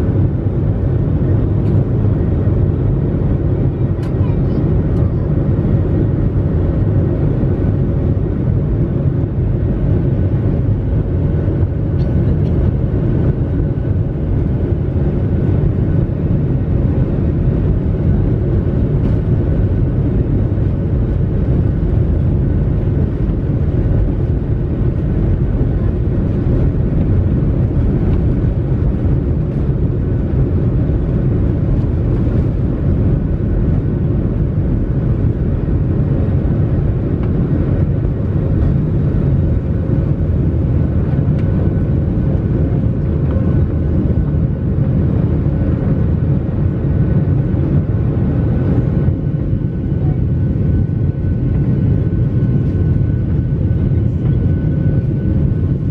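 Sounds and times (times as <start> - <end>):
aircraft rolling rumble: 0.0 - 55.9
jet engines: 0.0 - 55.9.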